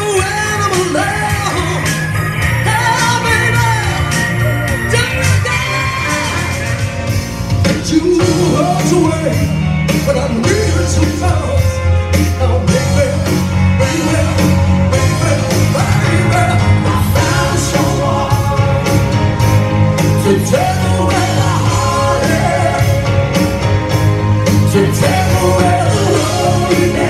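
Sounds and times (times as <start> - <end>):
backing track with drum beat: 0.0 - 27.0.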